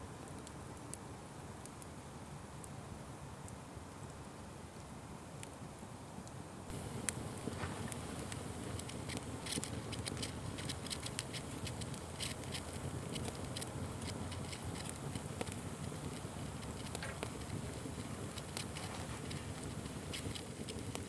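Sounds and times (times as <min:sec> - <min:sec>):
low rumble of burning: 0:00.0 - 0:21.0
wood fire crackling and popping: 0:00.2 - 0:01.9, 0:03.4 - 0:21.0.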